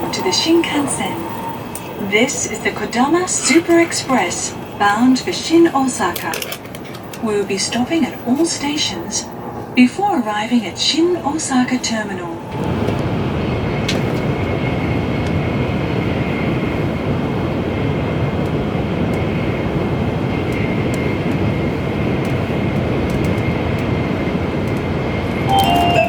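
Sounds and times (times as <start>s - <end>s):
train rumble and hiss: 0.0s - 26.0s.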